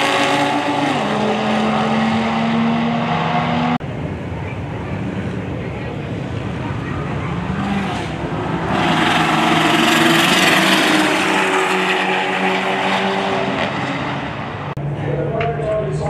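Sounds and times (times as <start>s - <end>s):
cars accelerating at full load: 0.0s - 16.0s.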